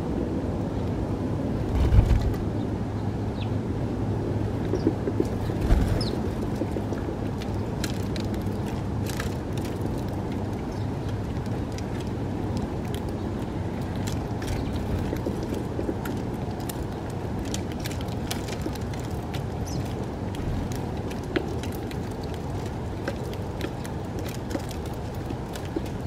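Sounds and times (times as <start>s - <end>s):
distant traffic rumble: 0.0s - 26.0s
birds pecking clicks: 4.6s - 26.0s.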